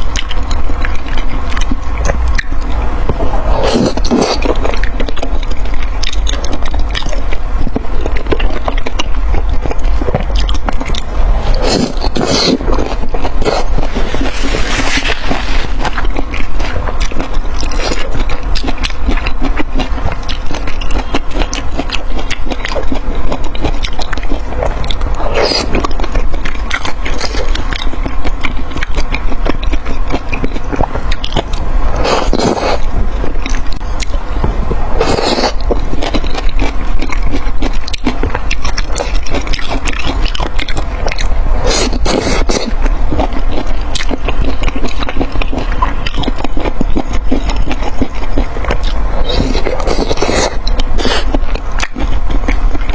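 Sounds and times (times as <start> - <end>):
crackly chewing: 0.0 - 52.9.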